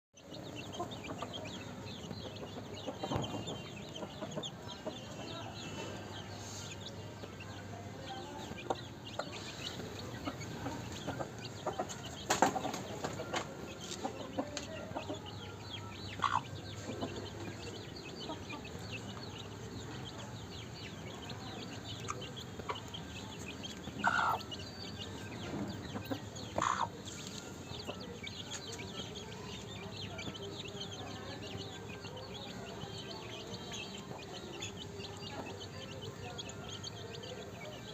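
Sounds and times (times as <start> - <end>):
chicks peeping: 0.2 - 37.9.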